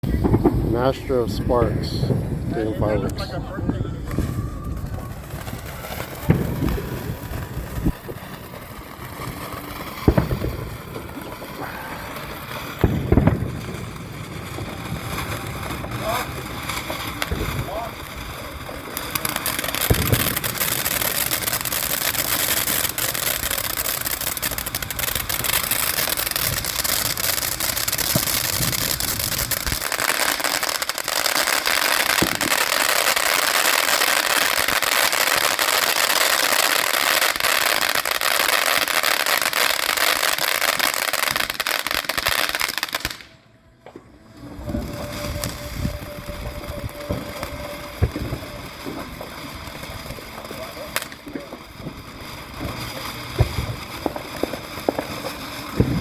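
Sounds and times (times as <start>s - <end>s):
firework fountain hissing and crackling: 0.0s - 56.0s.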